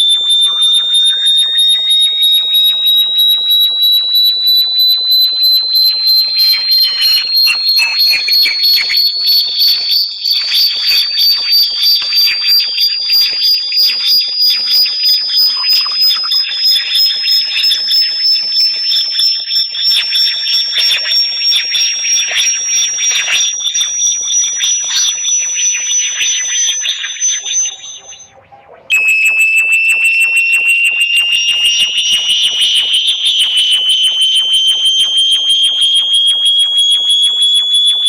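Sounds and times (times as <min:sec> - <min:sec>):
high-pitched gliding whistle tone: 0:00.0 - 0:38.0
pulsing chirping layer: 0:00.0 - 0:38.0.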